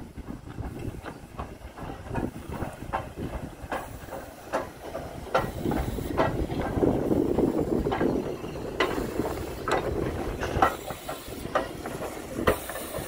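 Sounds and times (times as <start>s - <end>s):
low rumble of locomotive: 0.0s - 13.0s
steam hissing: 0.0s - 13.0s
train wheels clanking over rail joints: 0.0s - 13.0s.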